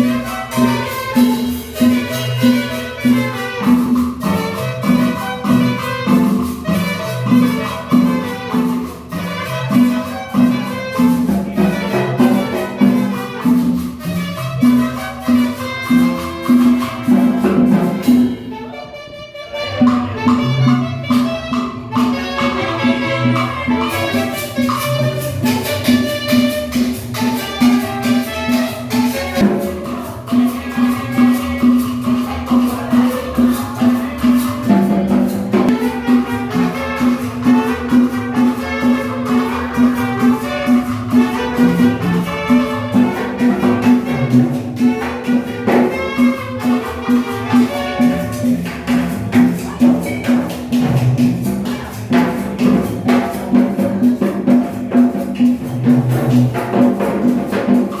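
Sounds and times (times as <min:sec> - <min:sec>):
salsa music with brass: 0:00.0 - 0:58.0.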